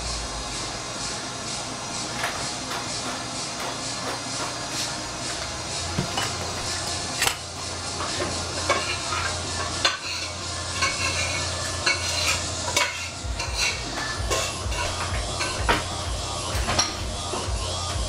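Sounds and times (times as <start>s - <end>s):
low steady hum: 0.0s - 2.3s, 5.2s - 18.0s.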